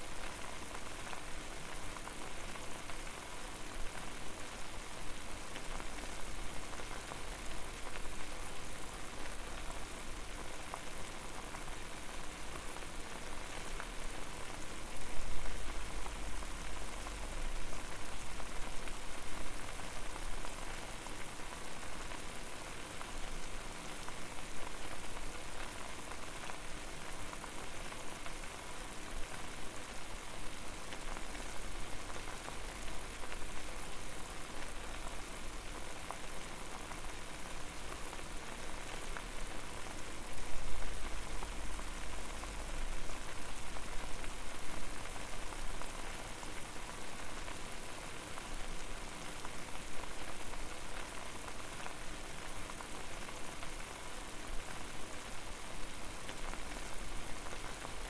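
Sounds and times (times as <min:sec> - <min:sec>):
water boiling and bubbling: 0:00.0 - 0:58.0.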